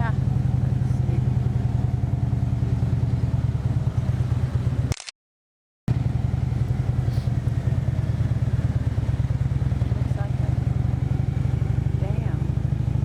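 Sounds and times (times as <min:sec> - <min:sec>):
motorcycle engine running: 0:00.0 - 0:05.0, 0:05.9 - 0:13.0.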